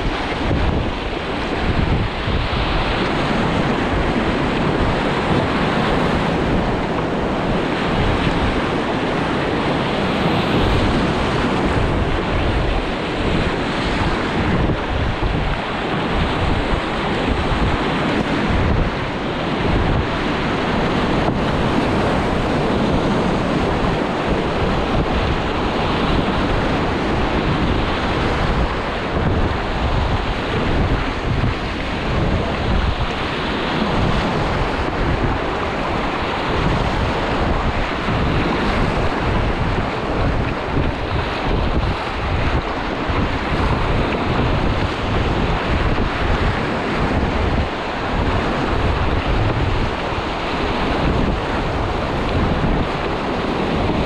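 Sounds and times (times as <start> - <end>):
river water rushing and splashing: 0.0 - 54.0
wind noise on microphone: 0.0 - 54.0.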